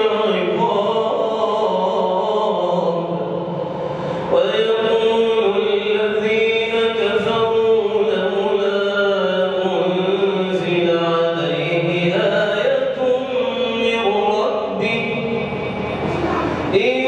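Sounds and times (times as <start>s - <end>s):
man chanting melodically: 0.0s - 3.6s, 4.2s - 17.0s.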